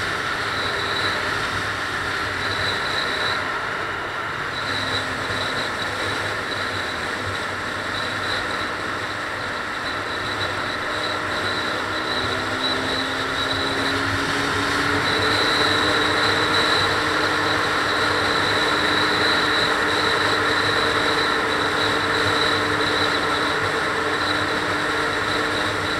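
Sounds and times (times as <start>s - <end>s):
car driving on freeway: 0.0s - 25.9s.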